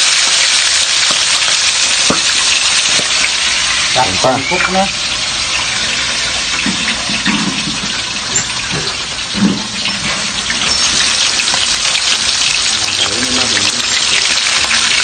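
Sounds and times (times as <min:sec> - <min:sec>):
fish sizzling in hot oil: 0:00.0 - 0:15.0
oil crackling spatter: 0:00.0 - 0:15.0.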